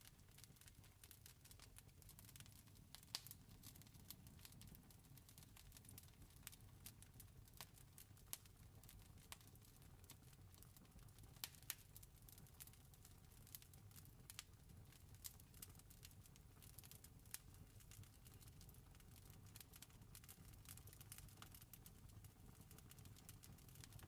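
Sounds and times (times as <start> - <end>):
campfire crackling: 0.1 - 24.0.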